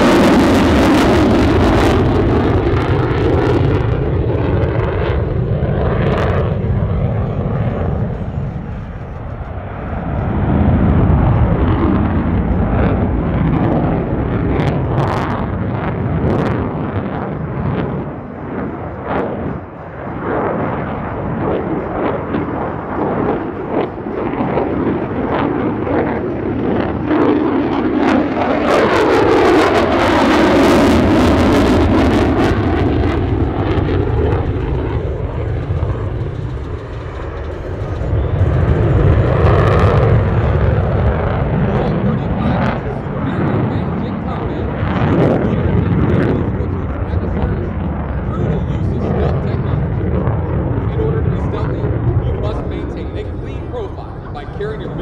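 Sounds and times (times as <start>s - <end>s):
jet engine afterburner roaring: 0.0s - 55.0s
jet passing whoosh: 0.0s - 55.0s.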